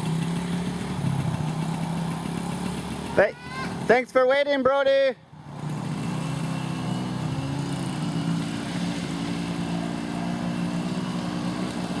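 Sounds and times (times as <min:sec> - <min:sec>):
small engine running: 0:00.0 - 0:04.6, 0:05.3 - 0:12.0.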